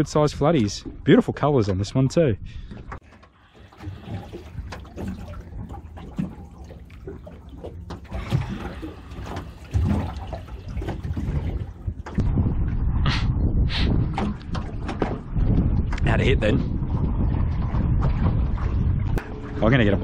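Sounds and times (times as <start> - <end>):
water slapping against boat hull: 0.0 - 12.8, 13.9 - 20.0
low rumble: 3.7 - 20.0.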